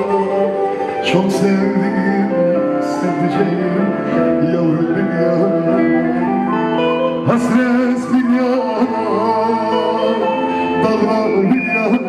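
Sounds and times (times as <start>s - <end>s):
live band slow instrumental: 0.0s - 12.0s.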